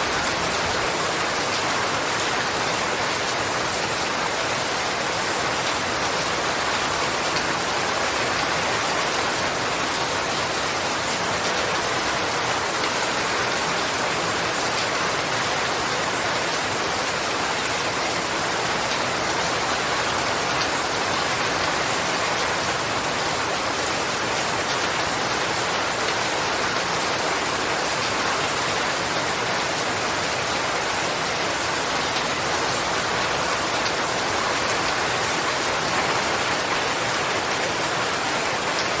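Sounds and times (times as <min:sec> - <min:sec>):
steady rain pattering: 0:00.0 - 0:39.0.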